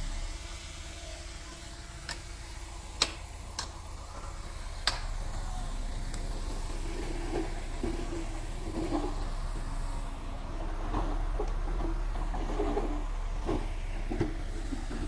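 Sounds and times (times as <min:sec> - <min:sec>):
bulldozer diesel engine rumble: 0:00.0 - 0:15.0.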